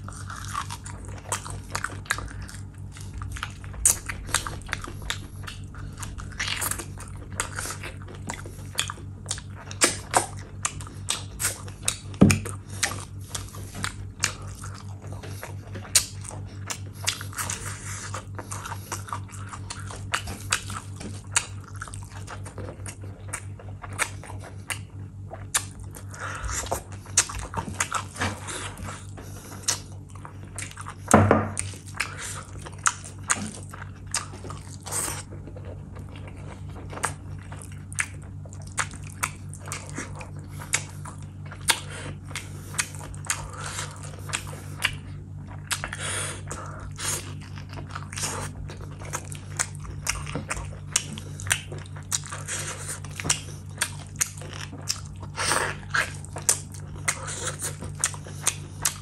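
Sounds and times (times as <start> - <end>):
low steady hum: 0.0 - 59.0
wet chewing: 0.0 - 59.0.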